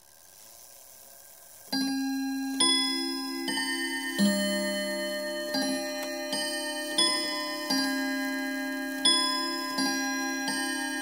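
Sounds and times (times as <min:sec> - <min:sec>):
clock chime tune: 0:01.7 - 0:11.0.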